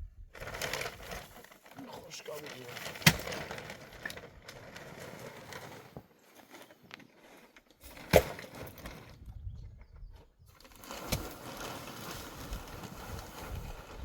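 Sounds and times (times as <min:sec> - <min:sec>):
steady rustling noise: 0:00.0 - 0:14.0.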